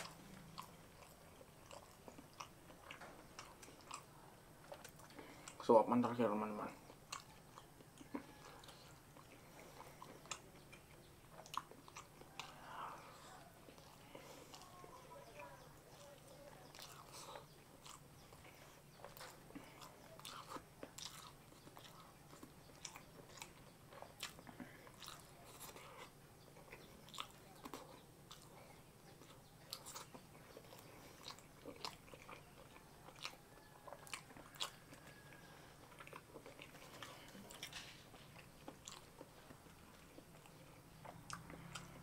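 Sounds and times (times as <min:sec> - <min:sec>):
person chewing with wet smacks: 0:00.0 - 0:42.0.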